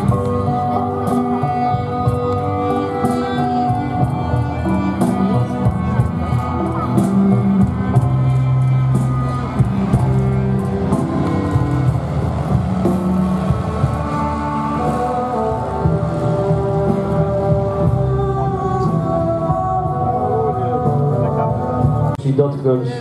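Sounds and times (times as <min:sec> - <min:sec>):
music with held notes and beat: 0:00.0 - 0:23.0.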